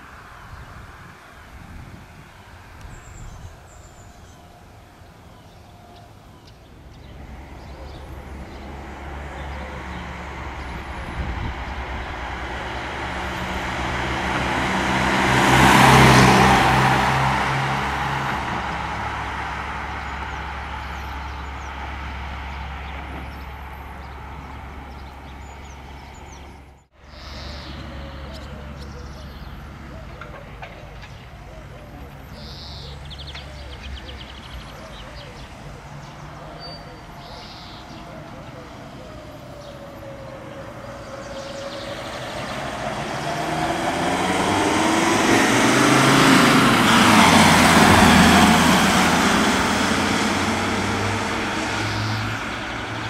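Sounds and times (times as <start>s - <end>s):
car driving past: 6.8s - 30.2s, 32.4s - 53.0s.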